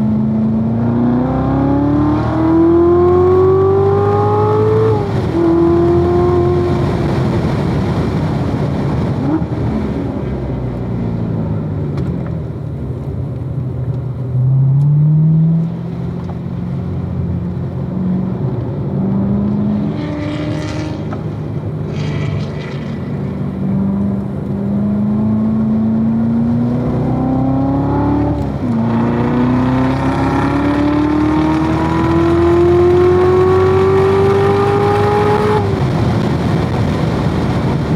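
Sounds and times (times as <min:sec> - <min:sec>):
sports car engine revving: 0:00.0 - 0:12.9, 0:13.5 - 0:37.9.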